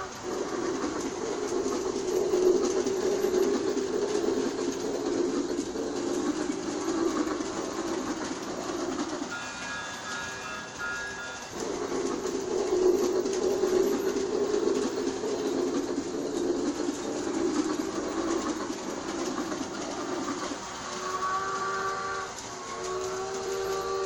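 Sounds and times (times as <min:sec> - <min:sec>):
steady whistle tone: 0:00.0 - 0:24.0
toy steam train chugging: 0:00.0 - 0:24.0.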